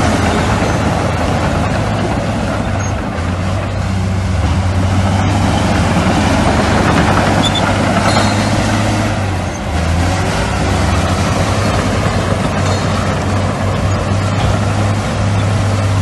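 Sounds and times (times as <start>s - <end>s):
broad mechanical noise: 0.0s - 16.0s
heavy machinery engine drone: 0.0s - 16.0s.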